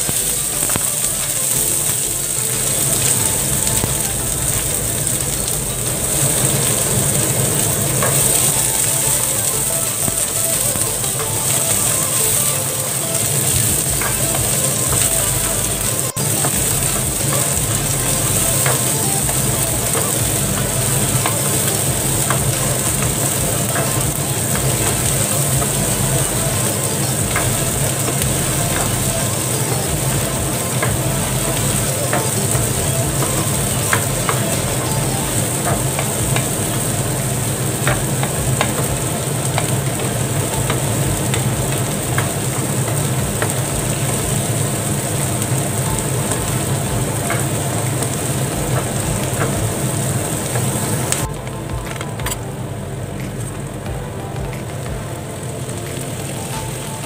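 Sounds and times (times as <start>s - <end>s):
onion sizzling in oil: 0.0s - 57.0s.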